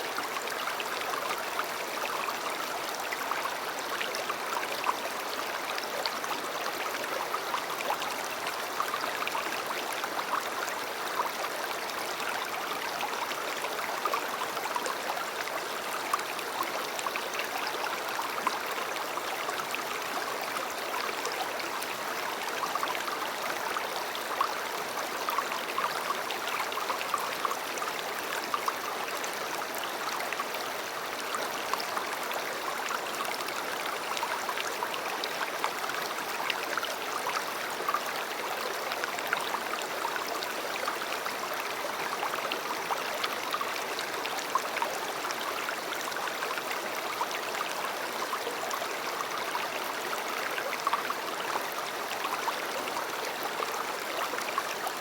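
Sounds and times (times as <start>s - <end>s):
river water babbling: 0.0s - 55.0s.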